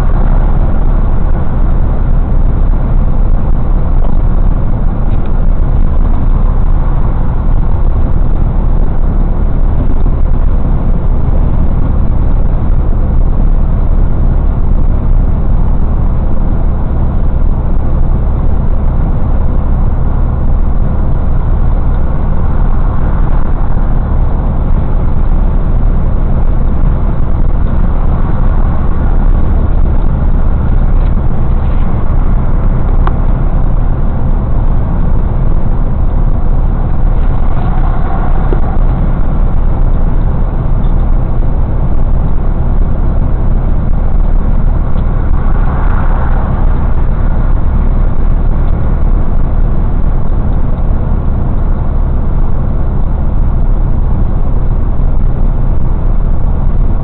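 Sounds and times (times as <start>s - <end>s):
road noise: 0.0s - 57.0s
truck diesel engine drone: 0.0s - 57.0s.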